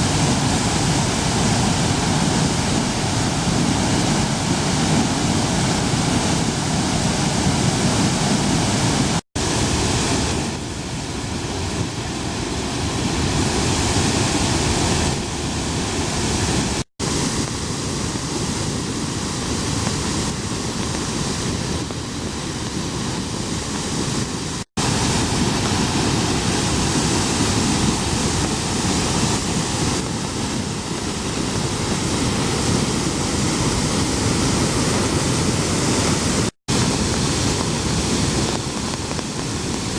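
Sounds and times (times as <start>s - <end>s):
water gushing from dam: 0.0s - 39.9s.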